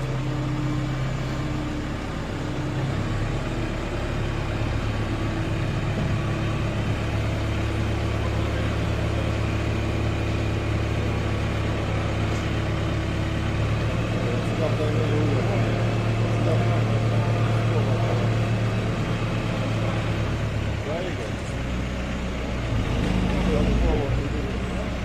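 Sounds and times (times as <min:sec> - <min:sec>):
heavy machine engine droning: 0:00.0 - 0:25.0.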